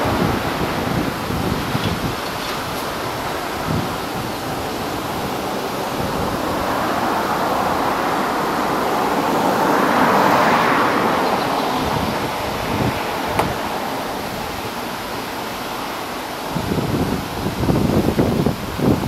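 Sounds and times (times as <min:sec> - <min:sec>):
distant jet engine roar: 0:00.0 - 0:19.0.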